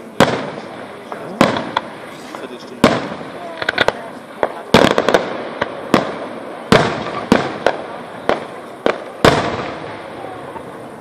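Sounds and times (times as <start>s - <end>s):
firework shells bursting: 0.2s - 10.1s.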